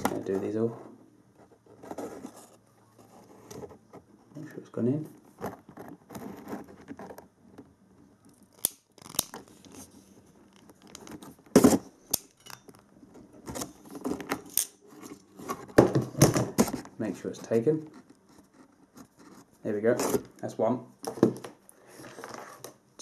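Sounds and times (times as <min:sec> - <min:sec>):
rustling of handling: 0:00.0 - 0:22.8.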